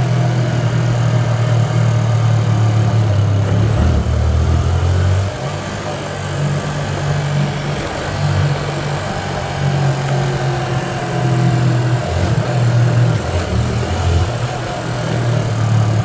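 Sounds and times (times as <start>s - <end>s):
motorcycle engine revving: 0.0s - 16.0s
steady rushing noise: 0.0s - 16.0s.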